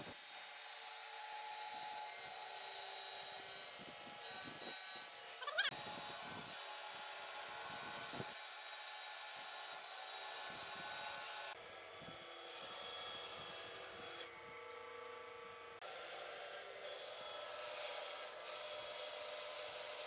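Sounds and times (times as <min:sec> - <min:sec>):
band saw cutting wood: 0:00.0 - 0:14.3, 0:15.8 - 0:20.0.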